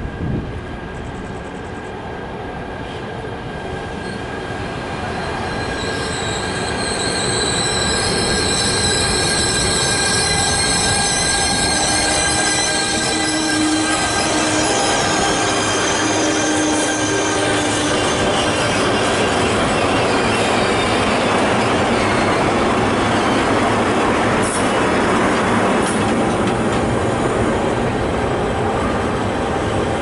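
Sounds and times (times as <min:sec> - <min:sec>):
freight train rumble: 0:00.0 - 0:30.0.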